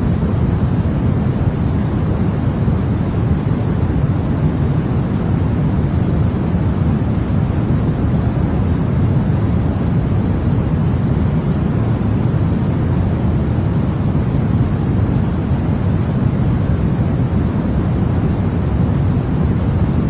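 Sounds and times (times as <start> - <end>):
deep white noise hiss: 0.0 - 20.0.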